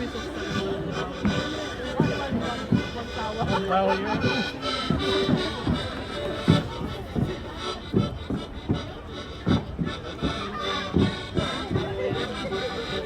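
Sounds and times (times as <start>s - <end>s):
folk dance music: 0.0s - 13.0s.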